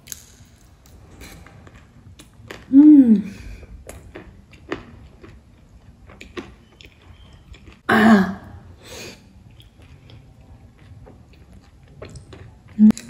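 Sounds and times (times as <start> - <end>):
woman chewing food: 0.0 - 13.0.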